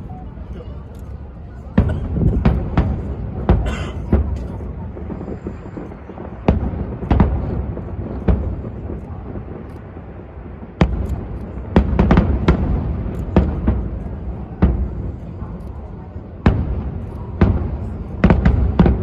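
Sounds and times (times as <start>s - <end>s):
fireworks bursting with sharp booms: 1.1s - 19.0s.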